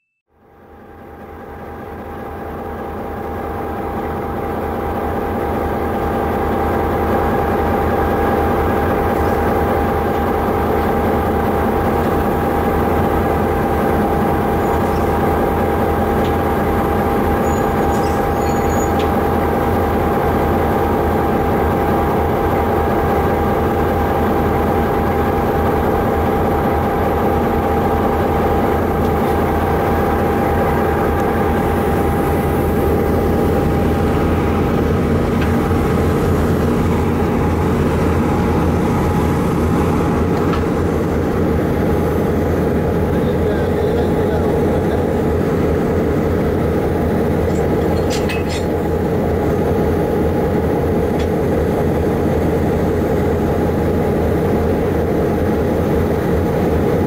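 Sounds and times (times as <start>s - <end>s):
diesel locomotive drone: 0.3s - 57.0s.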